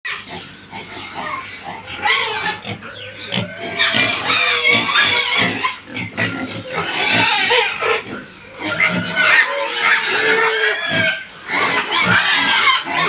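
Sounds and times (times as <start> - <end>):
pigs squealing and grunting: 0.1 - 13.0.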